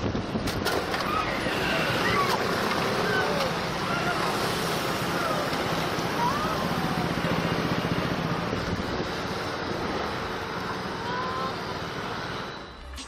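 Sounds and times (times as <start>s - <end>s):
scooter engine hum: 0.0s - 13.0s.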